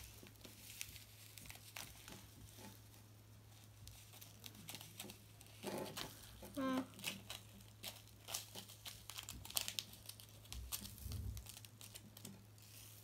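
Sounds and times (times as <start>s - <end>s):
plastic sachet crinkling: 0.0s - 2.9s, 3.6s - 13.0s.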